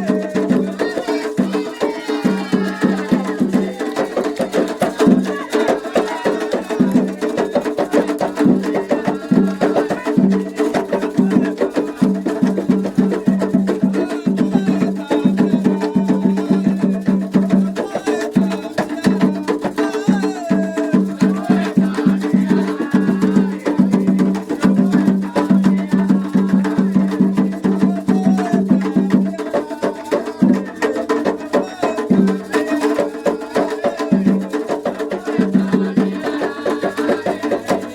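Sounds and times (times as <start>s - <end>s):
hand drums playing fast rhythm: 0.0s - 37.9s
sharp clicking percussion: 0.0s - 37.9s
voices singing: 0.0s - 37.9s.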